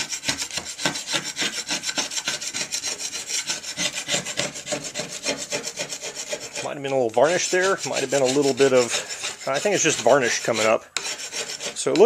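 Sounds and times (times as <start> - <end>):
hand scraper rasping over wood: 0.0 - 12.0.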